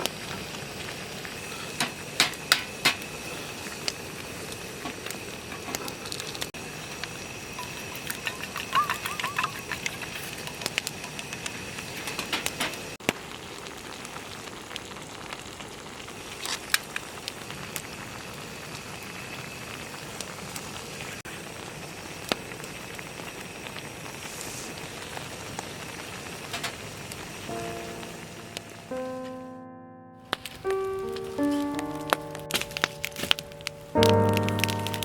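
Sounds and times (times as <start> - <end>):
campfire crackling and popping: 0.0 - 29.3, 30.3 - 35.0.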